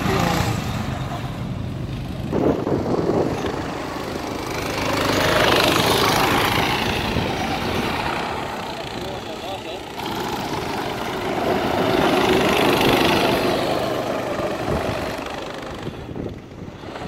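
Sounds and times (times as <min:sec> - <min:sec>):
go-kart engines passing: 0:00.0 - 0:17.0.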